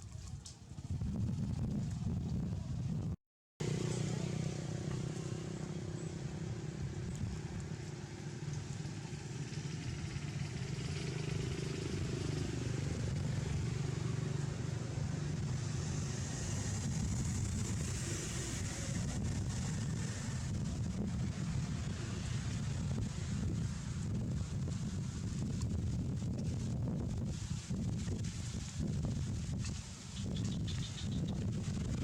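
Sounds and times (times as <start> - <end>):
vehicle engine rumbling: 0.1 - 32.0.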